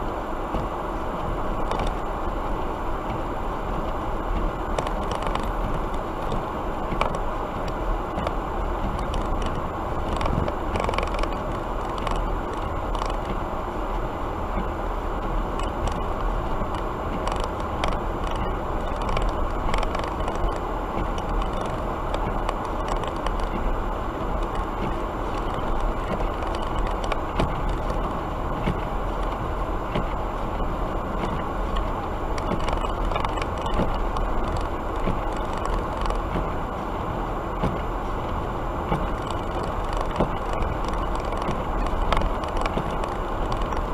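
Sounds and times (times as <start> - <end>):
car road and engine noise: 0.0 - 43.9.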